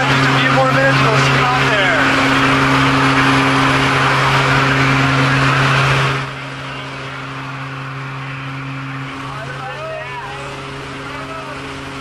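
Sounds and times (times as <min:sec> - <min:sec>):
propeller engine droning: 0:00.0 - 0:12.0.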